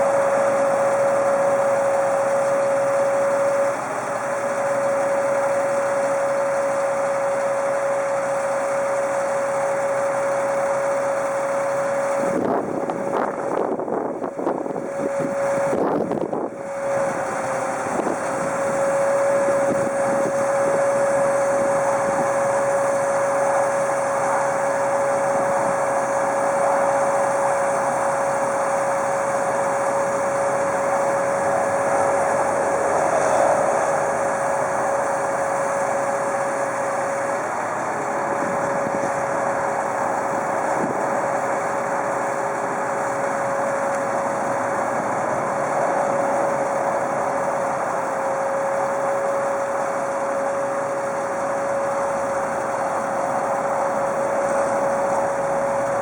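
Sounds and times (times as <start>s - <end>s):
diesel truck engine idling: 0.0s - 56.0s
steady whine: 0.0s - 56.0s.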